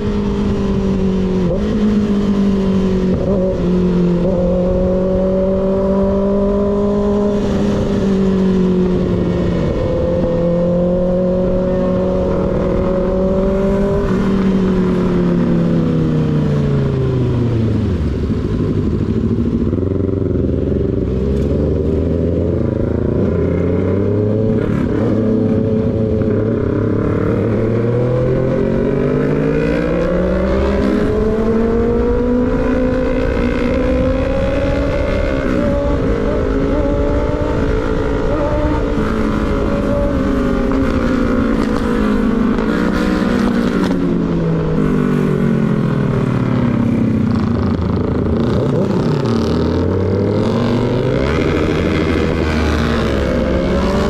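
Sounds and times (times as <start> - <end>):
motorcycle engine: 0.0 - 54.0
wind rumble: 0.0 - 54.0.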